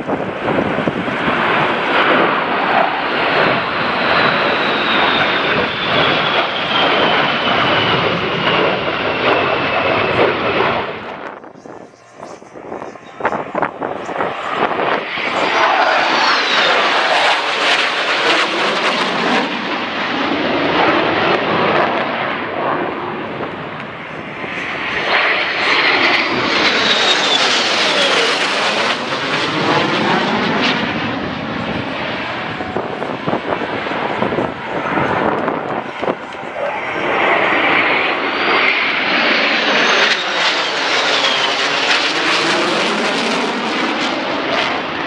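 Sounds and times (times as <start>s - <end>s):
jet engines roaring overhead: 0.0s - 45.0s.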